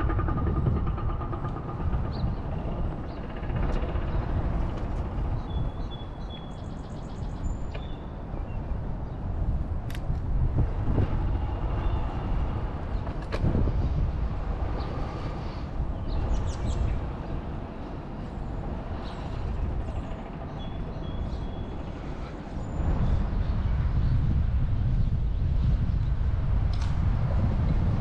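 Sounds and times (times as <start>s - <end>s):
low rumble of traffic: 0.0s - 28.0s
wind: 0.0s - 28.0s.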